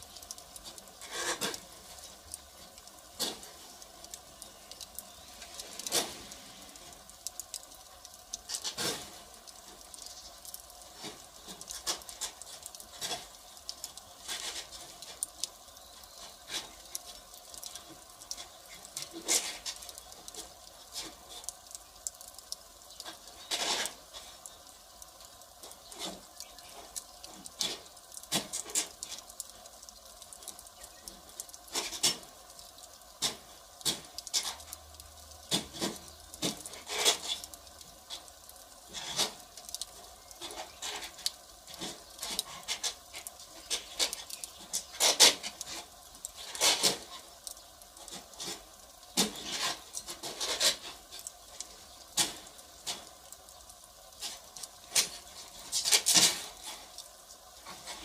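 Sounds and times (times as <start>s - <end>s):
faint steady hiss: 0.0s - 58.0s
firewood crackling and popping: 0.0s - 58.0s.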